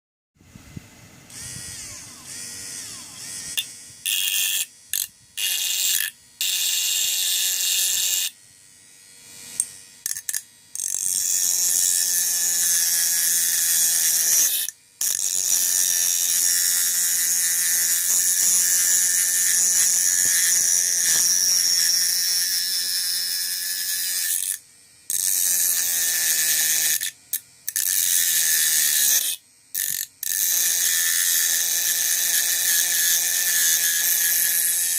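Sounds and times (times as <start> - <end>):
small electric grinder motor: 1.2 - 34.9.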